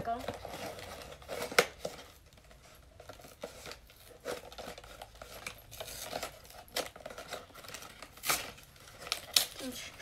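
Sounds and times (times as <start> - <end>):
cardboard and packaging rustling: 0.0 - 10.0.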